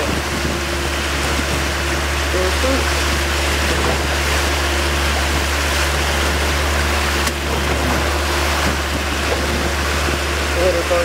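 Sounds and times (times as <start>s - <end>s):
boat engine droning: 0.0s - 11.0s
water rushing past hull: 0.0s - 11.0s.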